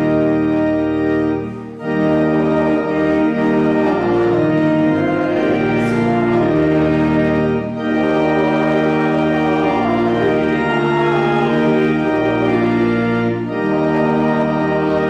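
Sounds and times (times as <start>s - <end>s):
organ playing held chords: 0.0s - 15.0s.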